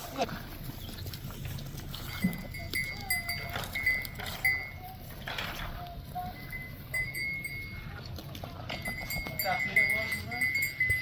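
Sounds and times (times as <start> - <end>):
livestock bells ringing: 1.9 - 11.0.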